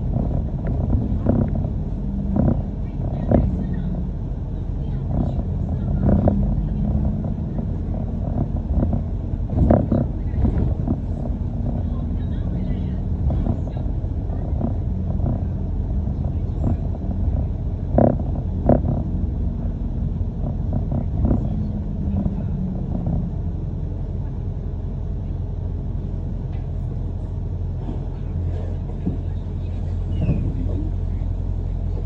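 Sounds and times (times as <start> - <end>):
bus rumbling along road: 0.0 - 32.0
knocks and rattles from bus body: 0.0 - 32.0.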